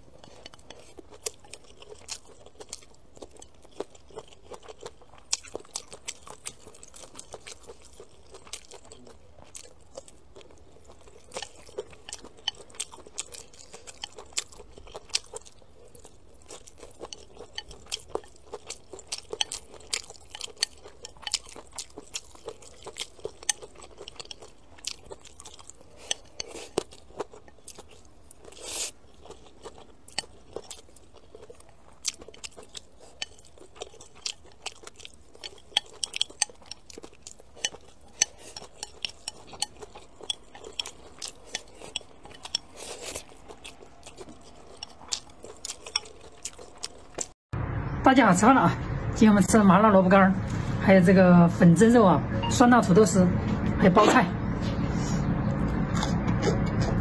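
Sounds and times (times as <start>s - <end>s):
close-up chewing and crunching: 0.0s - 47.4s, 54.8s - 57.0s.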